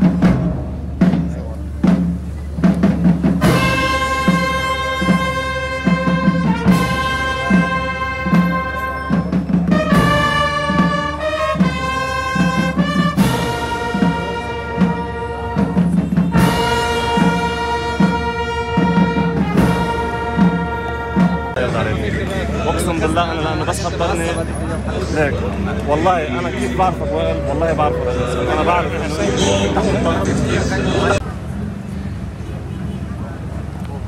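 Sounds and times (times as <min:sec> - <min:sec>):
brass band funeral march: 0:00.0 - 0:31.2
drum beats: 0:00.0 - 0:31.2.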